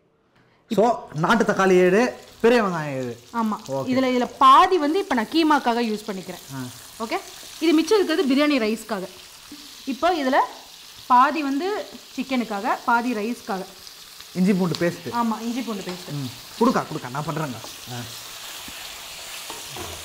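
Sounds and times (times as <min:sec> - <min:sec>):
onions frying in oil: 0:01.2 - 0:20.0.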